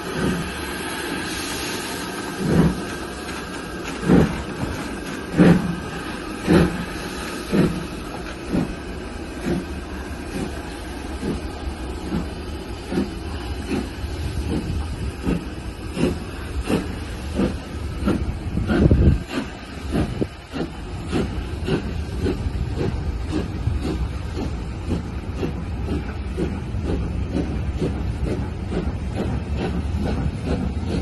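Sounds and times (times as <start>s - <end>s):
steam hiss: 0.0s - 31.0s
steam locomotive chuffing: 0.0s - 31.0s.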